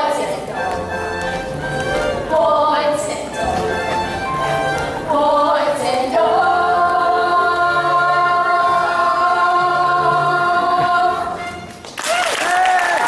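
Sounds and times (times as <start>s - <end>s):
show tune singing: 0.0s - 11.7s
musical accompaniment: 0.0s - 12.2s.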